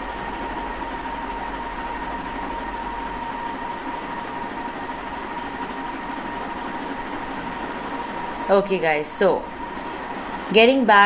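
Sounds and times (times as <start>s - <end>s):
constant high-pitched tone: 0.0s - 11.0s
low hum: 0.0s - 11.0s.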